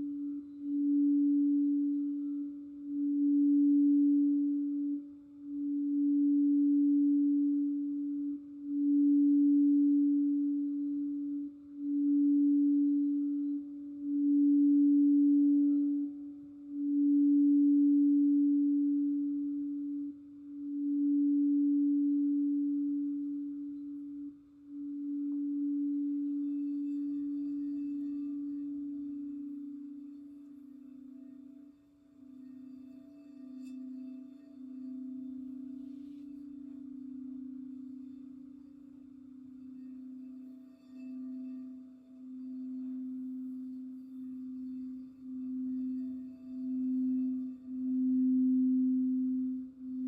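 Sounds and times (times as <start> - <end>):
higher bowl tones: 0.0 - 50.0
singing bowl low tone: 0.0 - 50.0.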